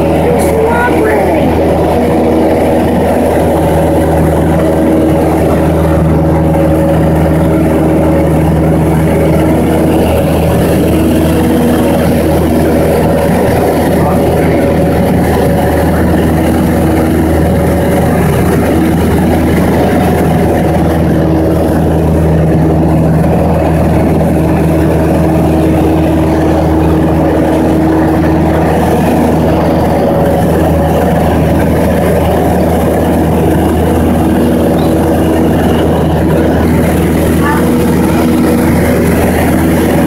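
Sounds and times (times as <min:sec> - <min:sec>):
aircraft engine and propeller droning: 0:00.0 - 0:40.0.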